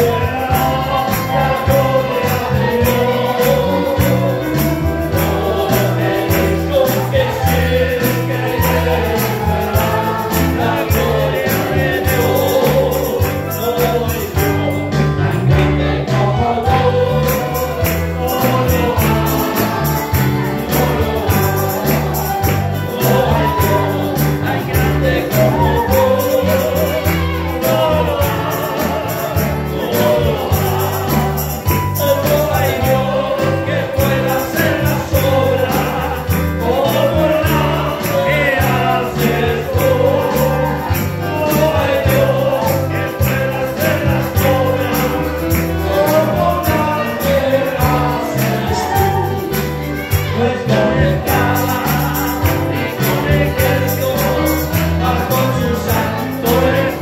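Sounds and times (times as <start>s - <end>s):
band playing: 0.0s - 57.0s
bass line: 0.0s - 57.0s
group of voices singing: 0.0s - 57.0s
steady percussion: 0.0s - 57.0s.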